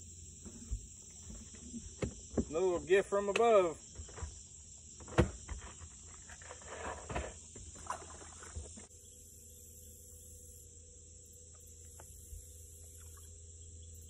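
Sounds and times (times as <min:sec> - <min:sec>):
faint steady hum: 0:00.0 - 0:14.0
insects droning: 0:00.0 - 0:14.0.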